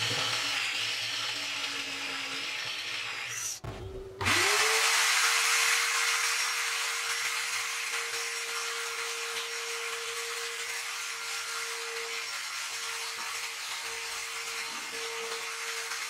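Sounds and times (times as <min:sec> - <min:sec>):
vacuum motor whine: 0:00.0 - 0:16.0.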